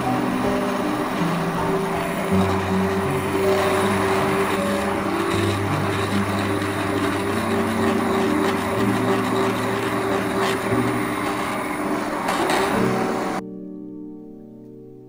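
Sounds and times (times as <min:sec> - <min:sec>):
immersion blender motor churning: 0:00.0 - 0:13.4.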